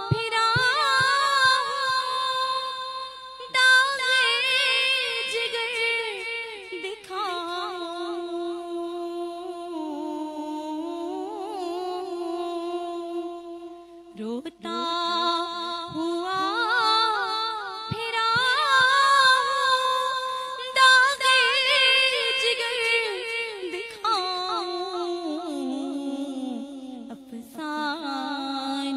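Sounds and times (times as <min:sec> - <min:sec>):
woman singing a cappella: 0:00.0 - 0:28.9.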